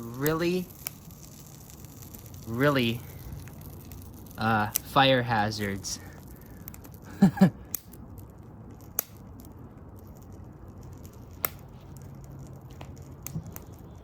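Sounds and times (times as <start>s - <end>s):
burning plastic crackling and popping: 0.0s - 14.0s
low steady hiss: 0.0s - 14.0s.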